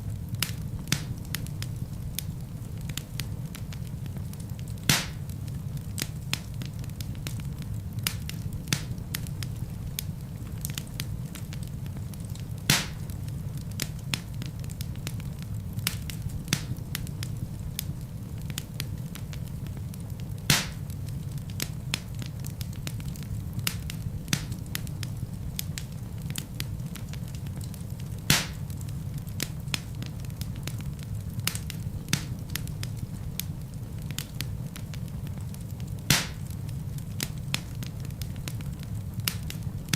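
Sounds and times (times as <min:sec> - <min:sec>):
burning logs popping: 0:00.0 - 0:39.9
fire crackling: 0:00.0 - 0:39.9
low rumble of flames: 0:00.0 - 0:39.9.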